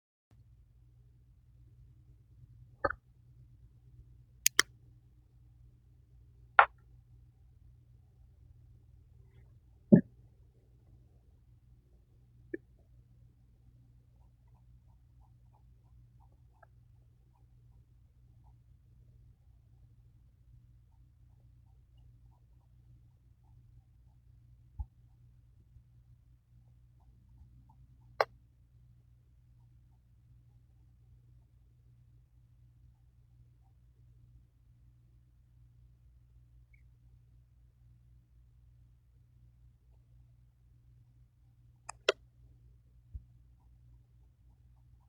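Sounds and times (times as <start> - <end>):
faint low hum: 0.4 - 45.0.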